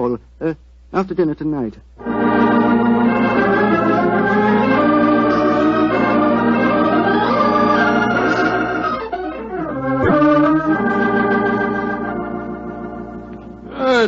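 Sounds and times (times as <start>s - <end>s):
organ playing held chords: 2.0s - 14.0s.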